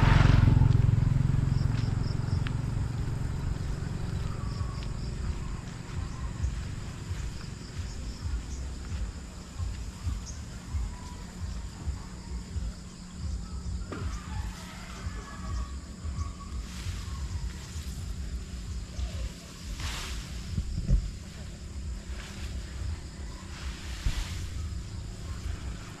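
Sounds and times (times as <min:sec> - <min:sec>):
faint insects chirping: 0:00.0 - 0:26.0
motor vehicle passing: 0:00.0 - 0:26.0
uneven low rumble: 0:00.0 - 0:26.0.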